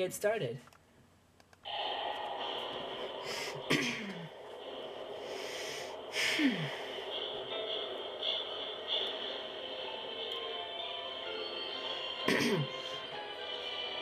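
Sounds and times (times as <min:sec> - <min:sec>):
muffled hiss-like ambience: 0:00.0 - 0:14.0.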